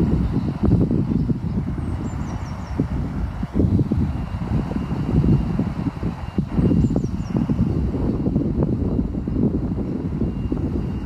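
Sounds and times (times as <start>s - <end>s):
water rushing over weir: 0.0s - 11.0s.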